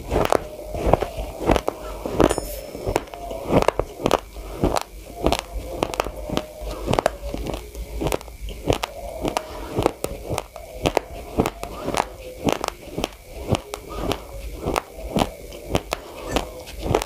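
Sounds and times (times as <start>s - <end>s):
rice grains crunched by chewing: 3.3s - 17.0s.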